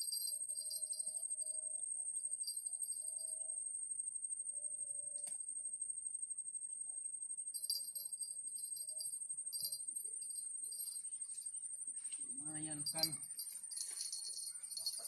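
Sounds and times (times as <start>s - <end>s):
insects shrilling high-pitched: 0.0s - 15.0s
pulsing insect chorus: 0.0s - 15.0s.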